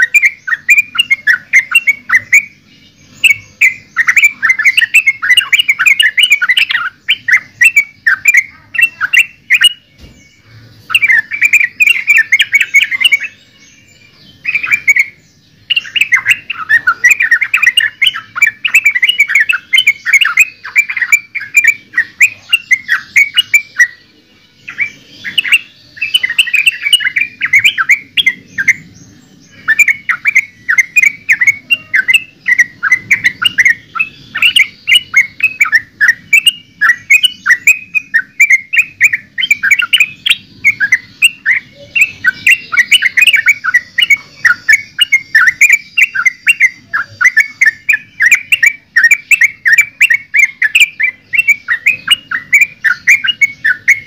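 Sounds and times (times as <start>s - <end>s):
bird singing bubbling chatter: 0.0s - 54.0s.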